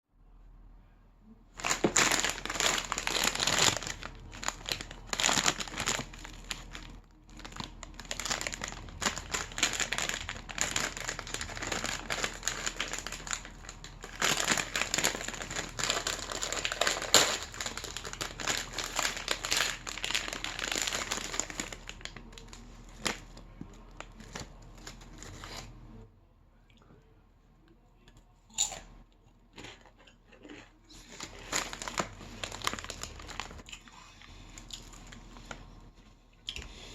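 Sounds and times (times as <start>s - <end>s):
plastic snack bag crinkling: 1.6s - 25.8s, 29.6s - 36.0s.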